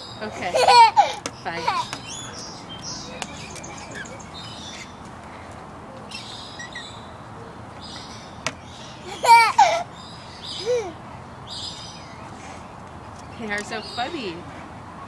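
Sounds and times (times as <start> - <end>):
bird chirping: 0.0 - 14.5.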